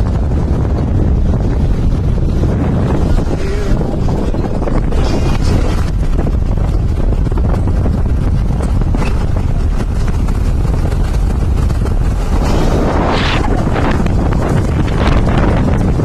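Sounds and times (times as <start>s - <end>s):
road and engine noise: 0.0s - 16.0s
wind buffeting microphone: 0.0s - 16.0s.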